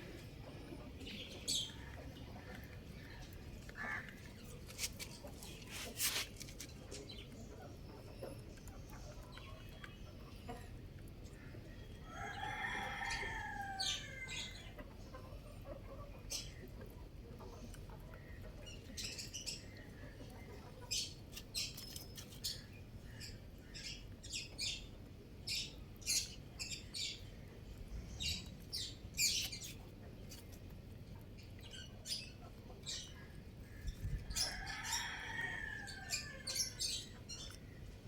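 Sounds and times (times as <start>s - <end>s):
baby chicks peeping: 0.0s - 38.0s.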